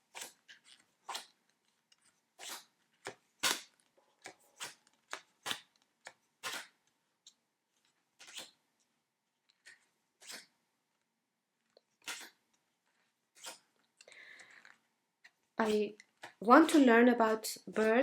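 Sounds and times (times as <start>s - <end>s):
cards flipping and sliding: 0.0s - 10.6s, 11.6s - 16.9s.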